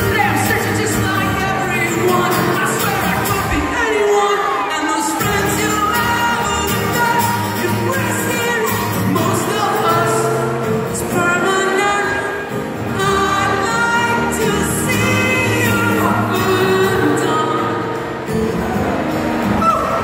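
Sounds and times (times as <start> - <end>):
acoustic guitar: 0.0 - 20.0
person singing: 0.0 - 20.0.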